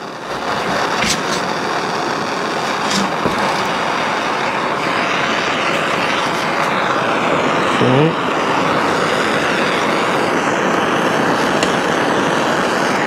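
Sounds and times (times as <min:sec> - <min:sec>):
heat tool blowing hiss: 0:00.0 - 0:13.0.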